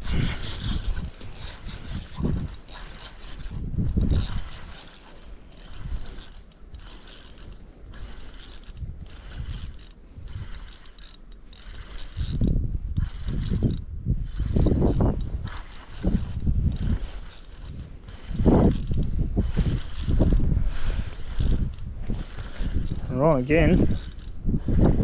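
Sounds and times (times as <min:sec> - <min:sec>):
fishing reel whirring and ticking: 0:00.0 - 0:25.0.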